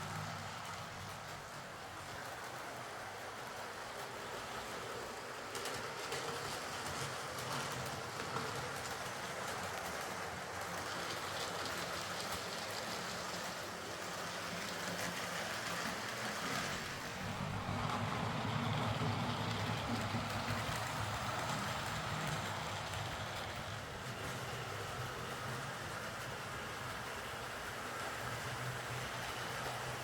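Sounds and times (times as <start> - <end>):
model locomotive motor hum: 0.0 - 30.0
wheels rattling on rails: 0.0 - 30.0.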